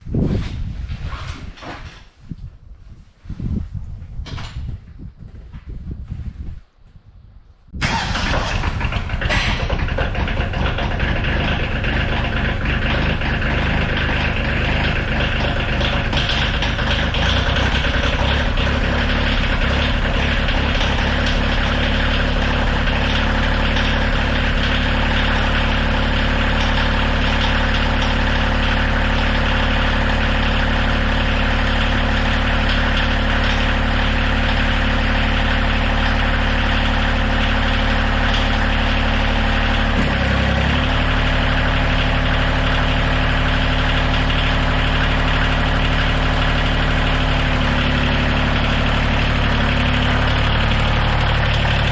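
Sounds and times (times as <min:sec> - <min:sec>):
tractor engine idling: 0:07.8 - 0:51.9.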